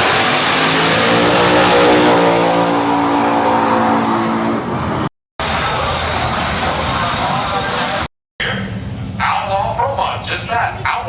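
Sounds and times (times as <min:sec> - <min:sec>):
race car engine at full throttle: 0:00.0 - 0:09.2
noisy vehicle sound: 0:00.0 - 0:11.0.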